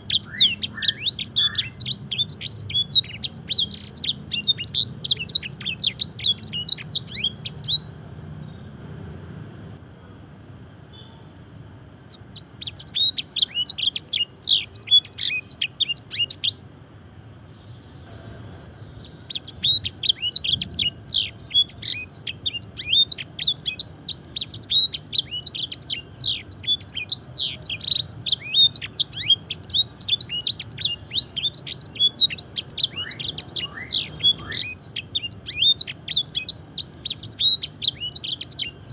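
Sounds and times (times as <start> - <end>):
faint low hum: 0.0 - 35.4
canary singing trills: 0.0 - 38.9.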